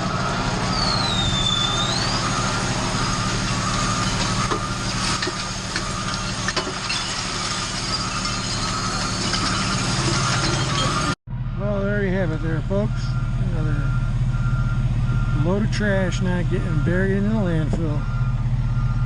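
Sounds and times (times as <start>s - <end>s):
backup alarm beeping: 0.0s - 11.2s, 12.2s - 19.0s
garbage truck diesel engine: 0.0s - 19.0s.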